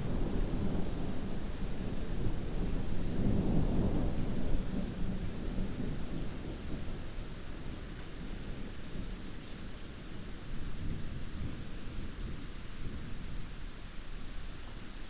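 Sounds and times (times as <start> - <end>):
low rolling thunder: 0.0 - 13.6
heavy rain: 0.0 - 15.0.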